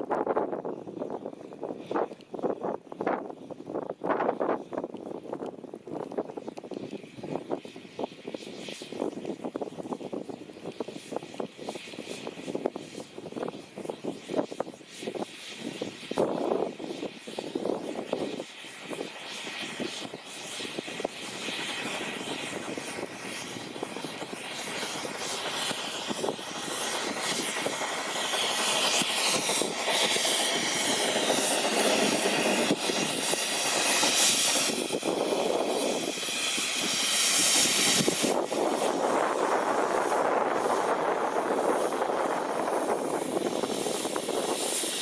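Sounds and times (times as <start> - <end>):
steam snowplow rushing and hissing: 0.0 - 45.0
wind buffeting microphone: 0.0 - 45.0.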